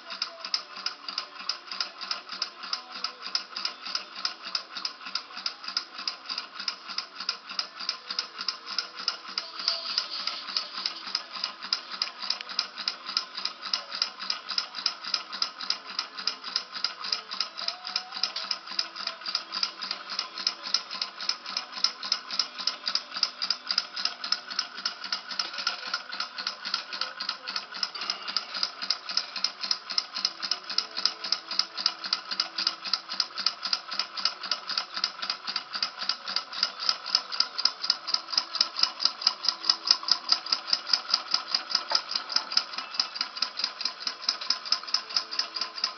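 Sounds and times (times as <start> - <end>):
model engine rattling: 0.1 - 45.9.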